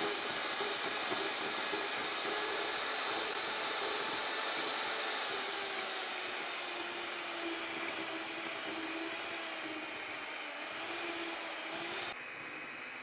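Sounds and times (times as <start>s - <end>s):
electric hand mixer humming: 0.0s - 12.8s.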